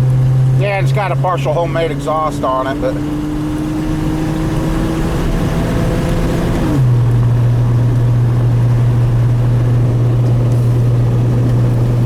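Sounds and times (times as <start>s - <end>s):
car engine droning while driving: 0.0s - 12.0s.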